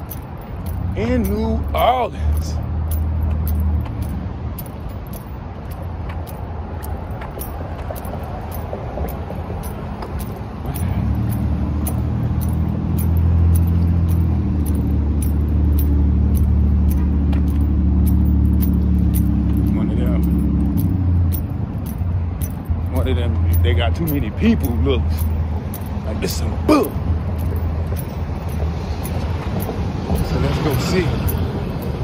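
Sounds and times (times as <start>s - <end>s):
vehicle engine humming: 0.0s - 32.0s.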